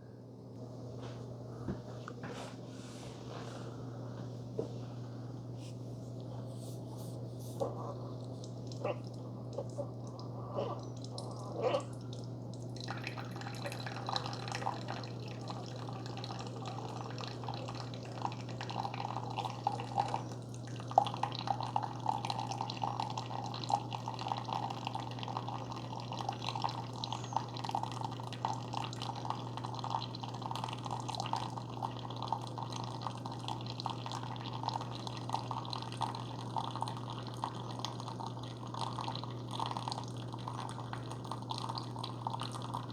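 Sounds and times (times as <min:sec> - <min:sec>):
coffee streaming into cup: 0:06.3 - 0:42.9.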